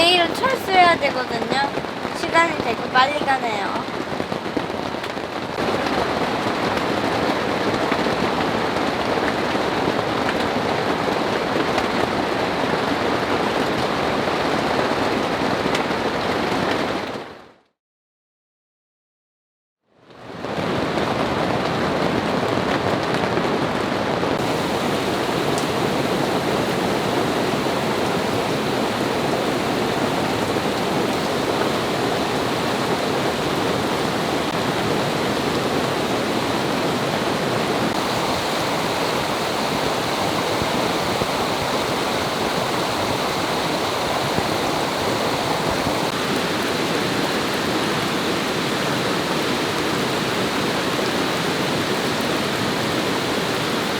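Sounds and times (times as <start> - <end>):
heavy rain pouring: 0.0 - 17.3, 20.2 - 53.9.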